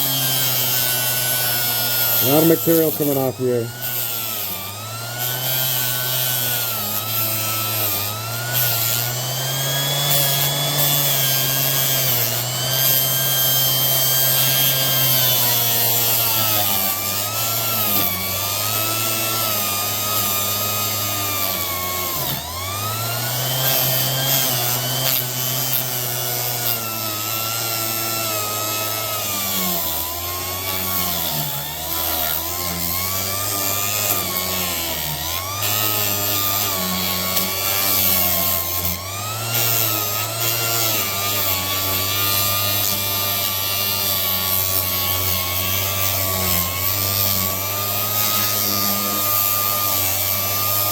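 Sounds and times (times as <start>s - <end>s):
orbital sander on metal: 0.0s - 50.9s.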